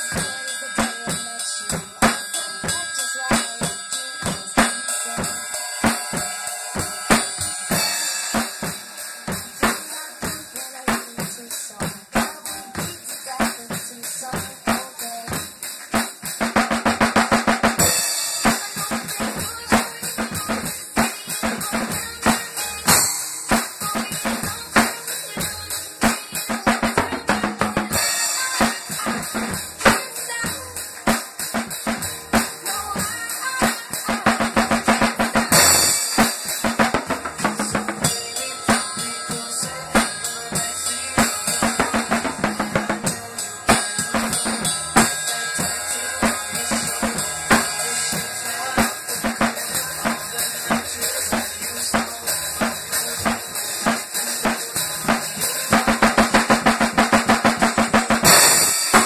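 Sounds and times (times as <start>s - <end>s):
drum kit rock beat: 0.0s - 59.0s.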